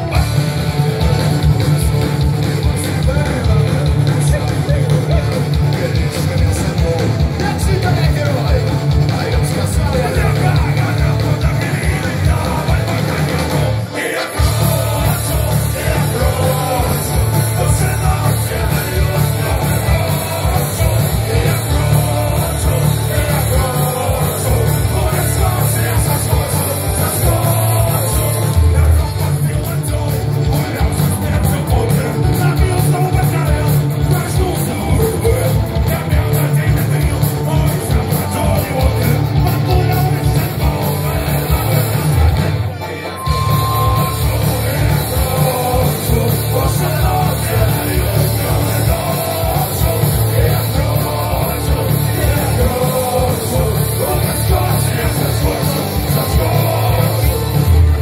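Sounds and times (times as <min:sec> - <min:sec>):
live rock band playing: 0:00.0 - 0:58.0
person singing: 0:01.0 - 0:58.0.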